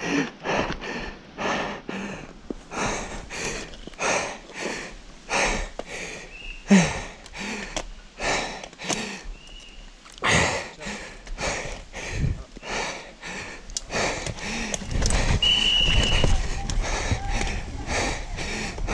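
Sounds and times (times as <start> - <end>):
person breathing hard: 0.0 - 9.5, 10.1 - 18.9.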